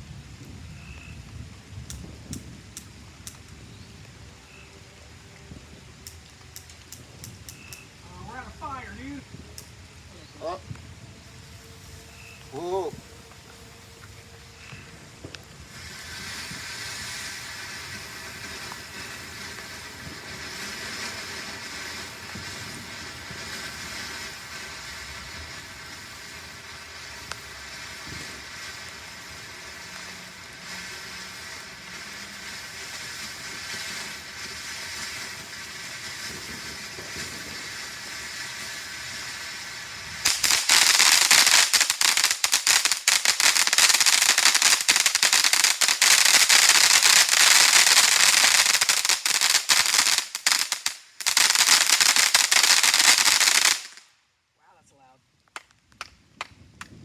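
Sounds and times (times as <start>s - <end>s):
firework crackling and hissing: 0.0s - 57.0s.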